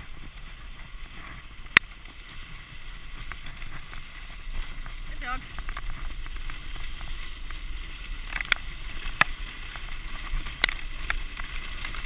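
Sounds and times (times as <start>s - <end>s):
sled clicks and knocks: 0.0s - 12.0s
sled runners sliding over snow: 0.0s - 12.0s.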